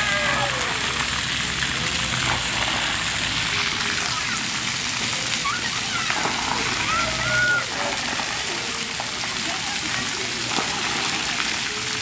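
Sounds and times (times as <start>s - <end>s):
voices calling out: 0.0s - 12.0s
water jets spraying: 0.0s - 12.0s.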